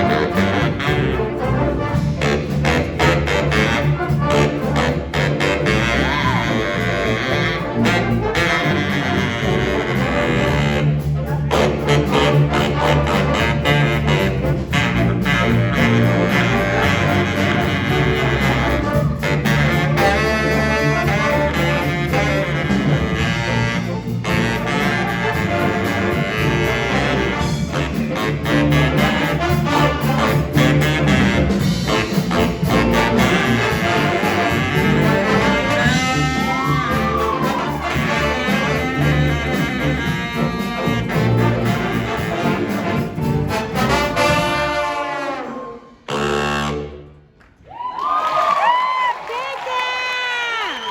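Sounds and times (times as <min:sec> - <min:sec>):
jazz band playing: 0:00.0 - 0:47.3.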